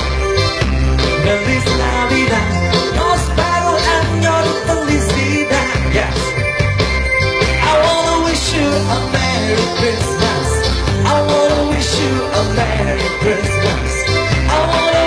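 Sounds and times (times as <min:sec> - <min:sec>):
drums keeping steady beat: 0:00.0 - 0:15.0
electric guitar: 0:00.0 - 0:15.0
man singing into microphone: 0:01.1 - 0:06.4, 0:07.6 - 0:15.0.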